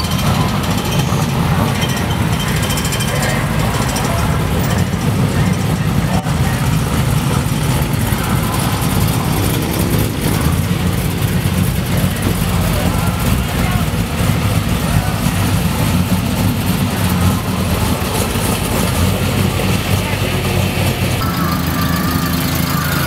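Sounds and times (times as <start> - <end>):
car engines burbling past: 0.0 - 23.0.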